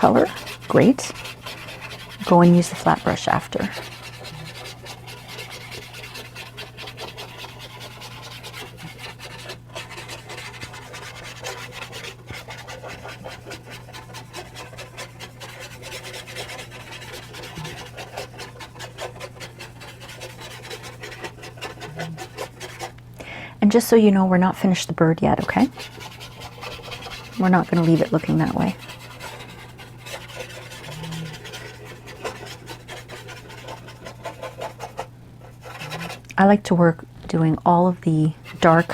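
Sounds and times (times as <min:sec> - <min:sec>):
brush scrubbing paper: 0:00.0 - 0:23.0, 0:25.3 - 0:36.2, 0:38.3 - 0:38.9
steady low hum: 0:00.0 - 0:38.9.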